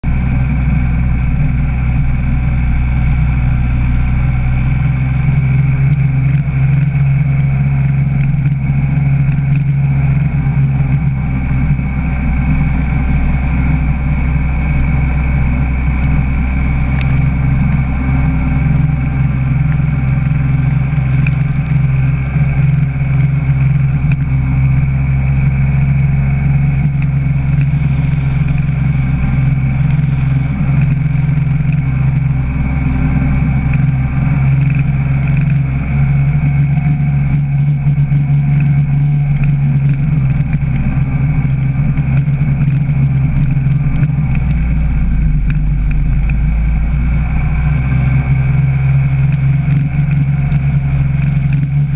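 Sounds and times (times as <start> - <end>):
jet ski engine running: 0.0 - 51.9.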